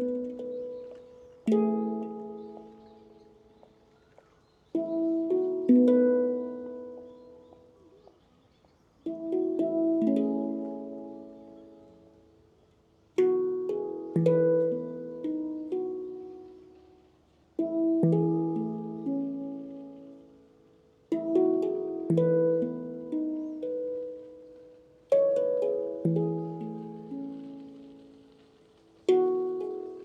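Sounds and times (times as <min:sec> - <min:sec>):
handpan notes ringing: 0:00.0 - 0:03.7, 0:04.6 - 0:08.2, 0:09.0 - 0:12.5, 0:13.1 - 0:30.0.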